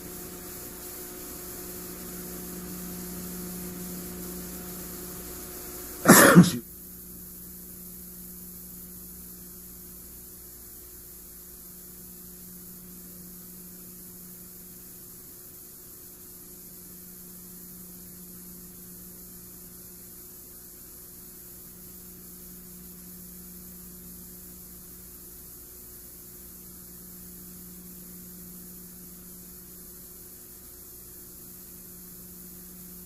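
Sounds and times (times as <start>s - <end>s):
electrical mains hum: 0.0s - 33.0s
steady hiss: 0.0s - 33.0s.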